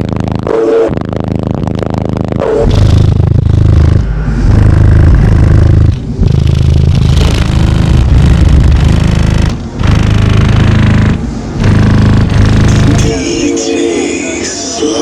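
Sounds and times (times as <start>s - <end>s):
deep bass from subwoofers: 0.0s - 13.7s.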